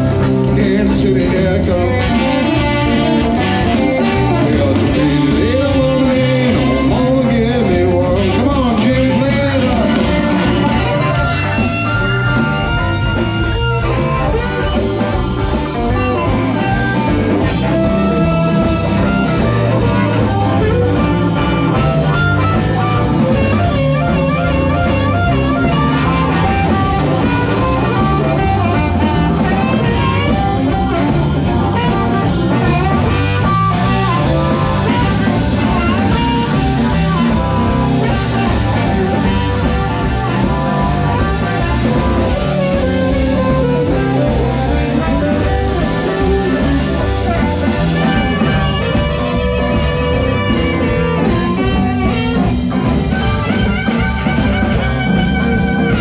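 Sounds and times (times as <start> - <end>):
blues band playing: 0.0 - 56.0
blues harmonica lead: 0.0 - 56.0.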